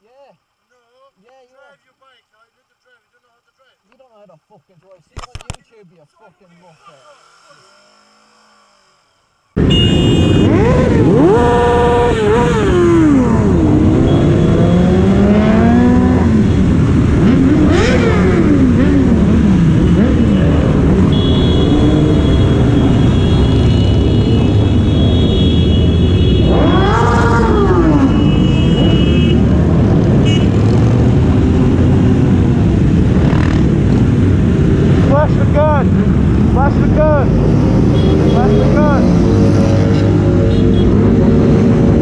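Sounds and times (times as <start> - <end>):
traffic noise: 5.0 - 42.0
motorcycle engines revving: 6.6 - 42.0.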